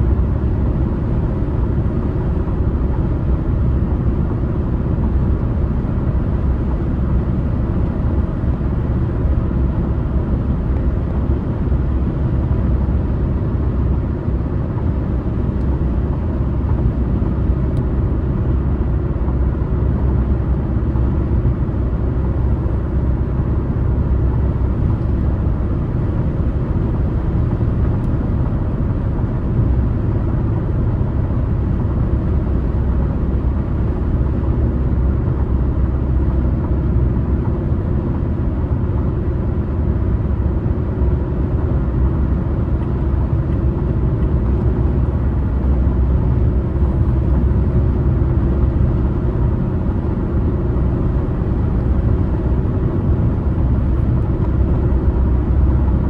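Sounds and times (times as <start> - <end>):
car driving road rumble: 0.0 - 56.0.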